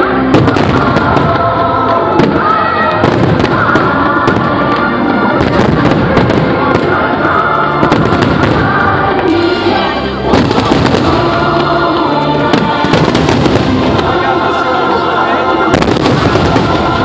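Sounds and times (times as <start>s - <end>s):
fireworks bursting: 0.0s - 17.0s
loud music: 0.0s - 17.0s.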